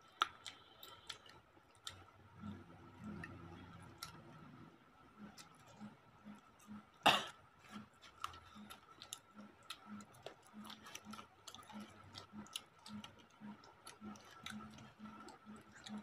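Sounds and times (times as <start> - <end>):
people chewing and lip smacking: 0.0 - 16.0.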